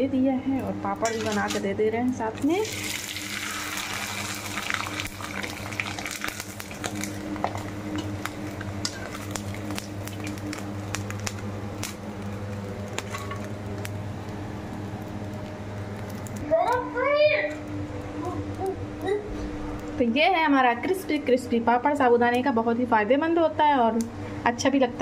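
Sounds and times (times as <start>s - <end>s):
deep-frying sizzle with crackles: 0.0s - 25.0s
steady low hum: 0.0s - 25.0s.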